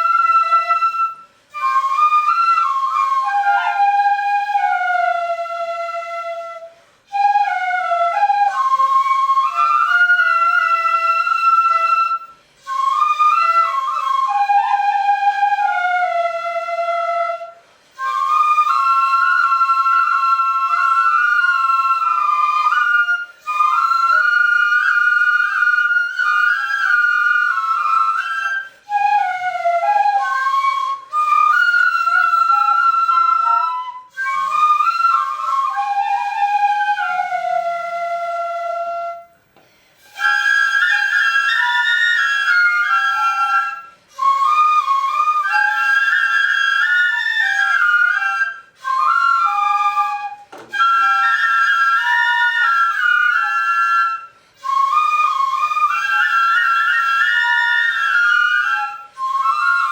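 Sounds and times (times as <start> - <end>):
bamboo flutes playing slow melody: 0.0 - 59.9.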